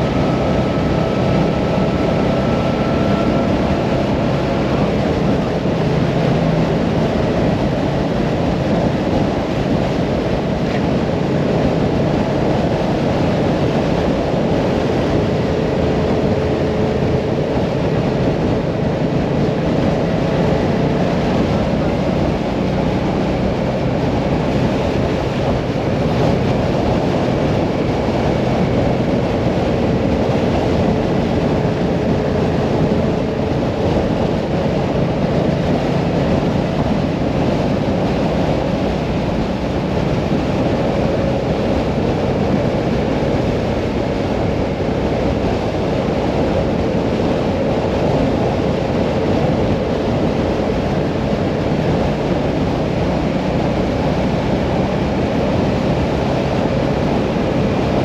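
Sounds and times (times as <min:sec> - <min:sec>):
motorcycle engine drone: 0:00.0 - 0:58.0
wind rushing on microphone: 0:00.0 - 0:58.0.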